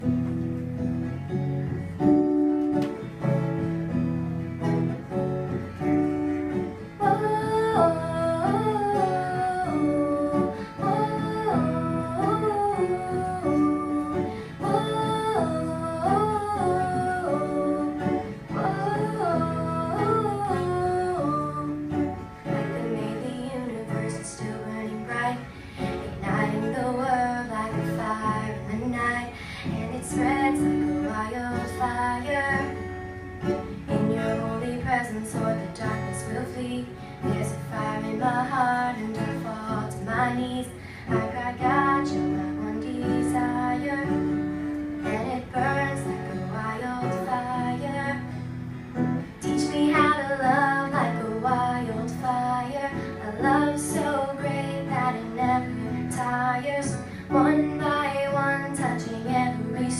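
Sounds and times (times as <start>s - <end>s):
acoustic guitar picking: 0.0s - 59.9s
wordless sung melody: 0.0s - 59.9s.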